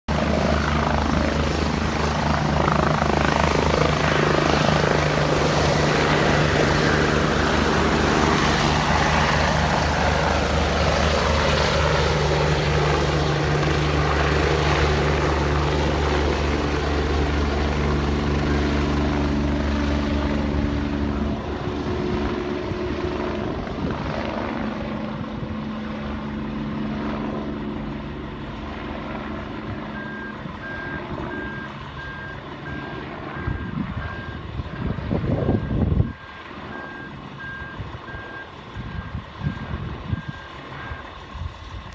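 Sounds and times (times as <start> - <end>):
helicopter rotor and engine: 0.1 - 41.9.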